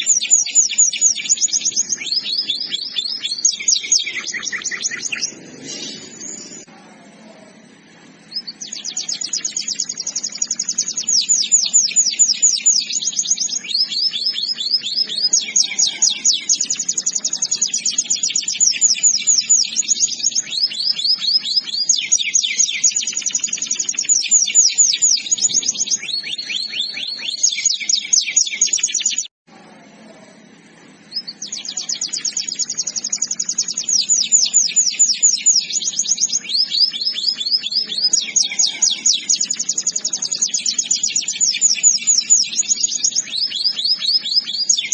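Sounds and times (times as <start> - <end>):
canary singing trills: 0.0 - 29.3, 30.4 - 44.9.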